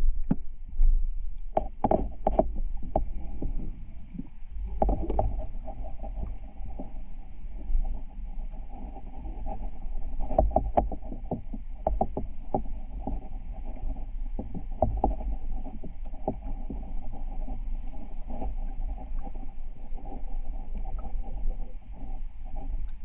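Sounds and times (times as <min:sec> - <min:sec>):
underwater river rumble: 0:00.0 - 0:23.0.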